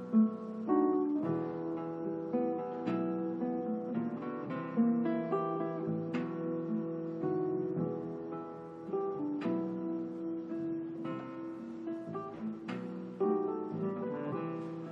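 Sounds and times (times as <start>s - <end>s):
acoustic guitar melody: 0.0s - 14.9s.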